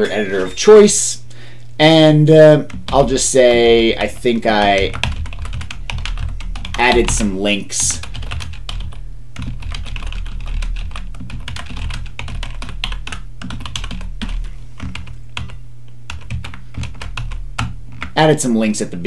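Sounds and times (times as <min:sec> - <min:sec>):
keyboard typing: 0:02.6 - 0:18.2.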